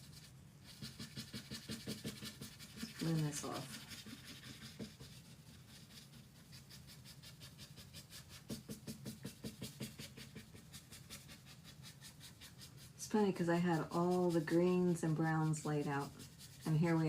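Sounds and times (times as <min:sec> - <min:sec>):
brush scratching on wood: 0:00.0 - 0:17.0.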